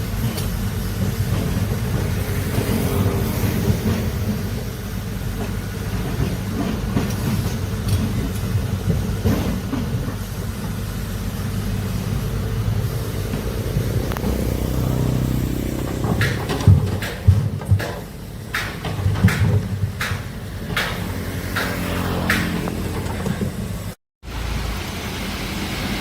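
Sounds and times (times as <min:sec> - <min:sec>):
diesel earthmoving machine rumbling: 0:00.0 - 0:26.0.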